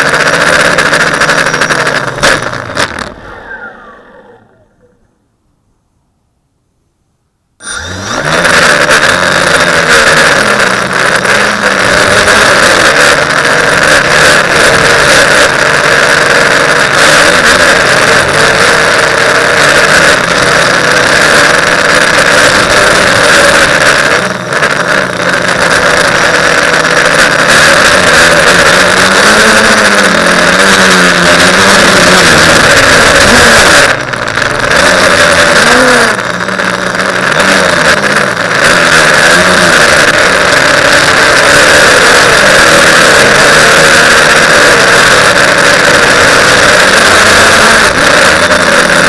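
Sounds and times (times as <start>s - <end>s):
quadcopter propellers whirring: 0.0s - 5.1s, 7.6s - 49.0s.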